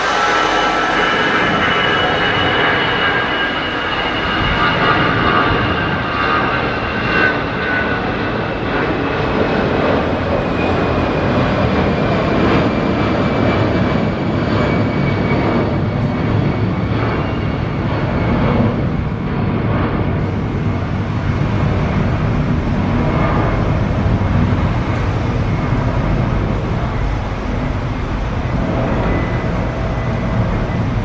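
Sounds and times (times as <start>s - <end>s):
jet engine high whine: 0.0s - 31.0s
jet engines roaring: 0.0s - 31.0s.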